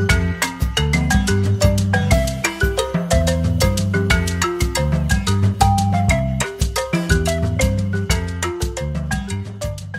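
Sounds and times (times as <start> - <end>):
upbeat background music: 0.0 - 9.9.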